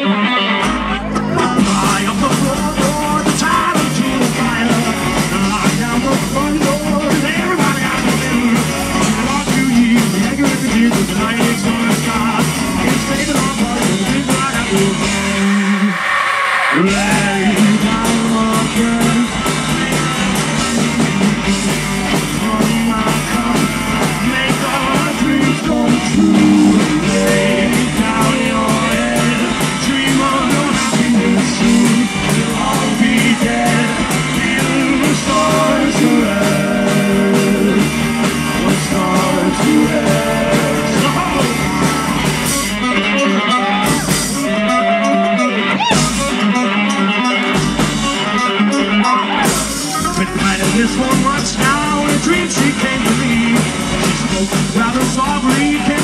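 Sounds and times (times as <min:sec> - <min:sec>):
person singing: 0:00.0 - 0:16.1, 0:21.2 - 0:42.2, 0:48.1 - 0:56.0
rock and roll band playing: 0:00.0 - 0:56.0.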